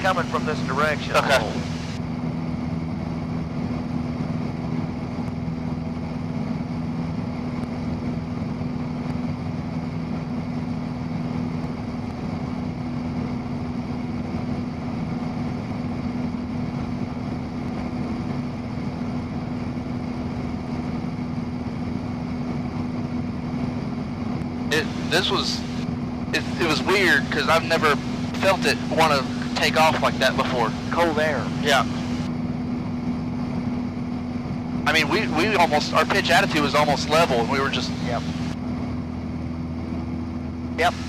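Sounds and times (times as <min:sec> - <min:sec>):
aircraft engine droning in cabin: 0:00.0 - 0:41.0.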